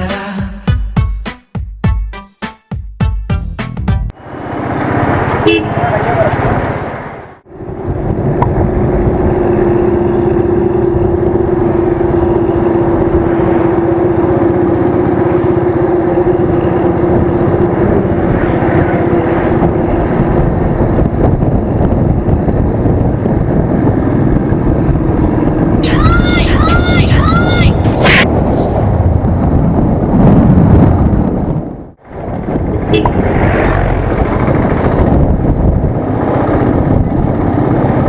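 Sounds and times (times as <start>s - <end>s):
road and wind noise: 3.6s - 38.0s.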